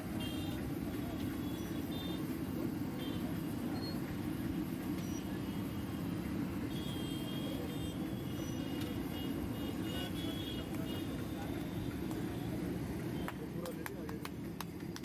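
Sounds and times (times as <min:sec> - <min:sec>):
gas burner flame roaring: 0:00.0 - 0:15.0.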